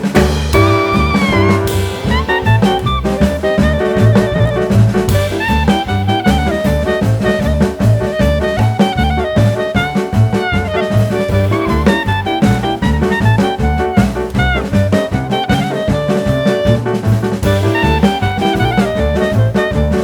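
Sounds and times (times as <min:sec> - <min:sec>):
upbeat swing jazz music: 0:00.0 - 0:20.0.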